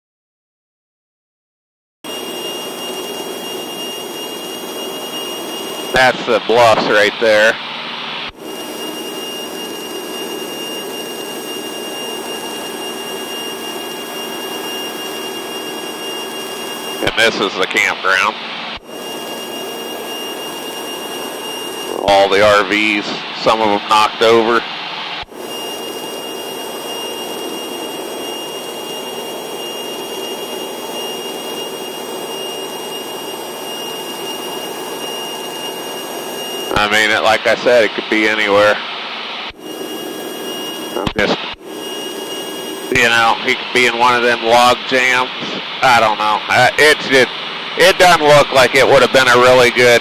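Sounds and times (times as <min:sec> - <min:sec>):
airplane engine and propeller drone: 0:02.1 - 0:50.0
thin high whine: 0:02.1 - 0:50.0.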